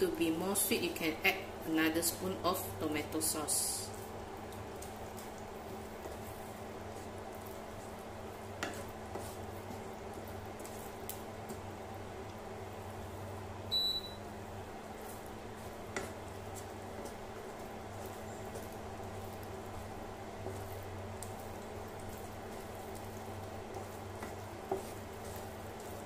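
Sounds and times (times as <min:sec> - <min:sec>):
induction cooktop hum: 0:00.0 - 0:26.0
spatula stirring wet food: 0:03.1 - 0:26.0.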